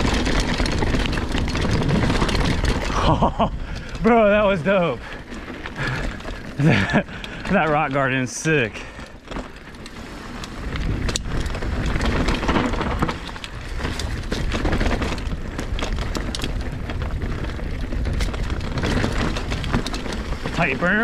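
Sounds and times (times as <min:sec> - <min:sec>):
bike clicks and rattles: 0:00.0 - 0:21.0
tyres rushing over dirt and rock: 0:00.0 - 0:21.0.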